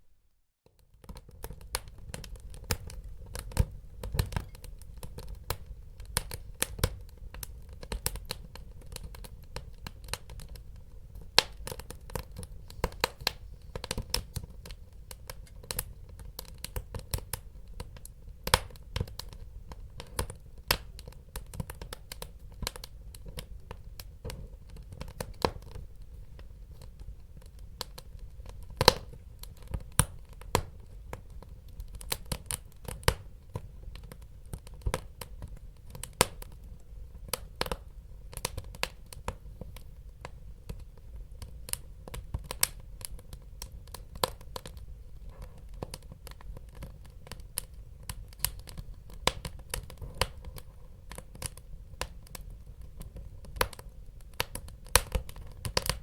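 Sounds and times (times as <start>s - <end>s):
low rumble of burning logs: 0.7s - 56.0s
wood fire crackling and popping: 0.7s - 56.0s.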